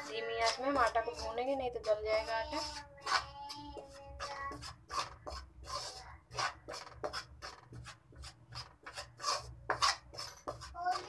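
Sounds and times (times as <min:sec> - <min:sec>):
spoon scraping metal pan: 0:00.0 - 0:11.0.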